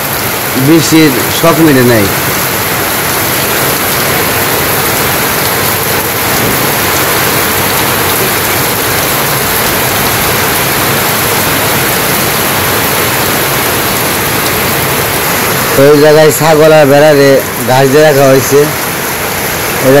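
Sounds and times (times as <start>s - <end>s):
heavy rain on tin roofs: 0.0s - 20.0s.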